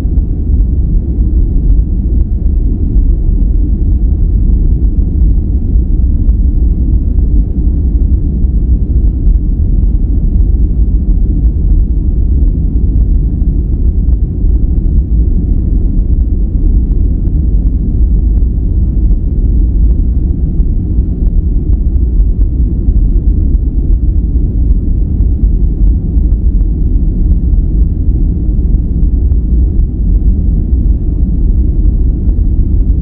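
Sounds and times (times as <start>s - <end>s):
deep rumbling brown noise: 0.0s - 33.0s.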